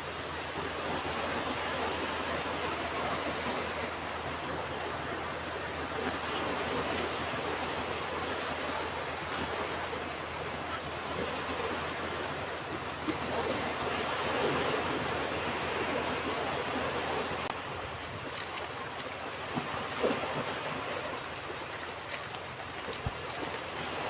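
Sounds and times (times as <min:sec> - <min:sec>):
ocean waves on beach: 0:00.0 - 0:24.0.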